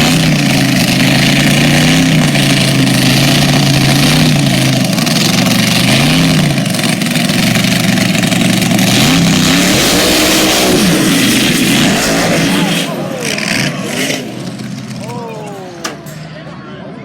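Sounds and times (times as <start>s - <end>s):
truck engine revving: 0.0s - 16.6s.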